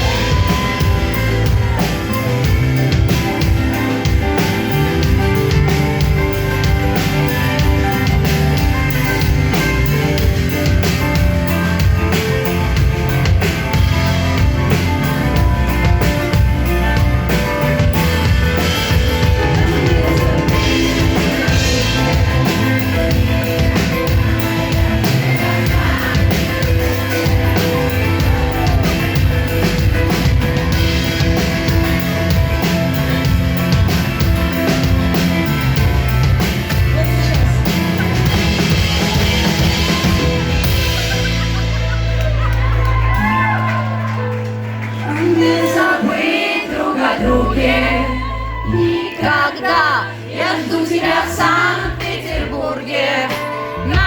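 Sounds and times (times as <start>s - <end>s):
drum kit beat: 0.0s - 44.7s, 50.4s - 54.0s
pop-rock band music: 0.0s - 54.0s.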